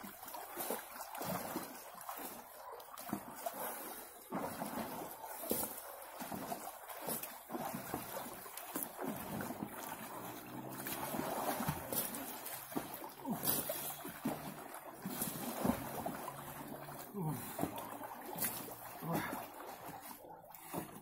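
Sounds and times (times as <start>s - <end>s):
man swimming: 0.0s - 21.0s
water churning and splashing: 0.0s - 21.0s.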